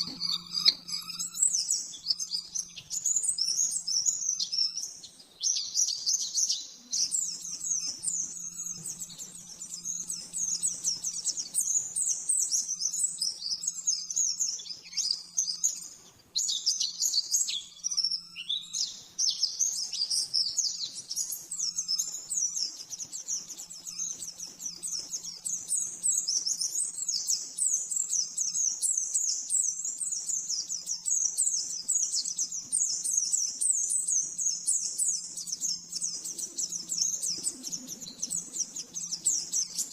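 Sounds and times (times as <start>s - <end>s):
white-eye twittering song: 0.0s - 39.9s.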